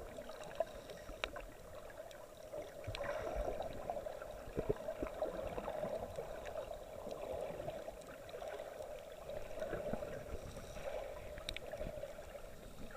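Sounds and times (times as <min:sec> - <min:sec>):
muffled moving water: 0:00.0 - 0:12.9
faint ticks: 0:00.2 - 0:12.9.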